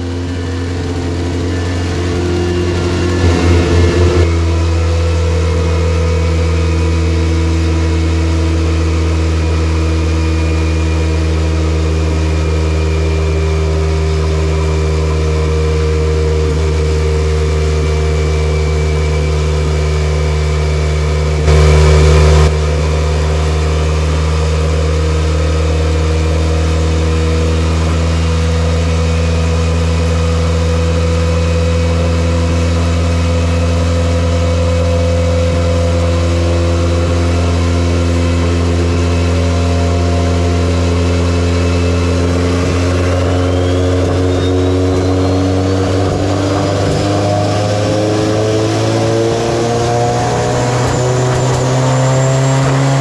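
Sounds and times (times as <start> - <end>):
engine throttle blips: 0.0 - 53.0
turbocharged engine running: 0.0 - 53.0.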